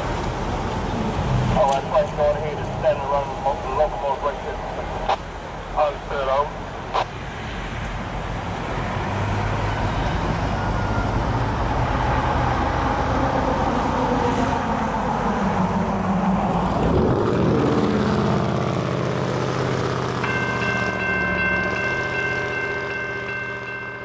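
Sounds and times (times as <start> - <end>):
diesel locomotive engines running: 0.0 - 24.0.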